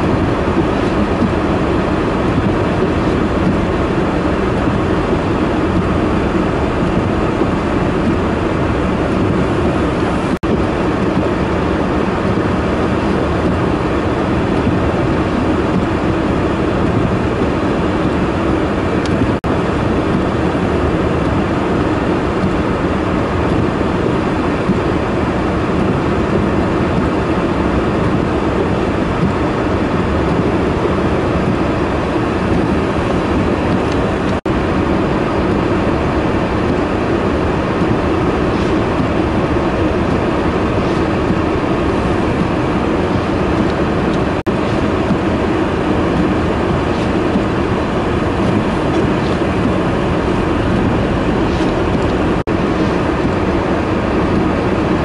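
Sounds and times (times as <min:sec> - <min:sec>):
blizzard wind roaring: 0:00.0 - 0:55.0
snow-clearing machine engines: 0:00.0 - 0:55.0.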